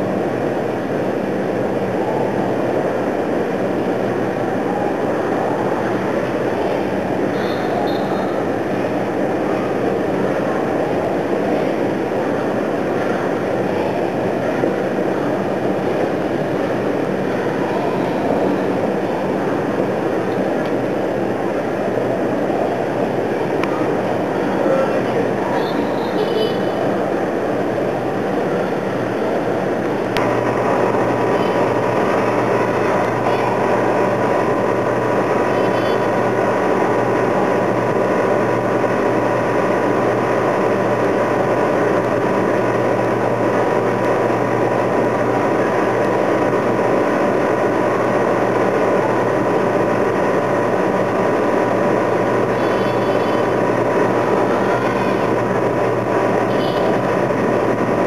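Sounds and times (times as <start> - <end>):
vehicle mechanical hum: 0.0 - 58.0.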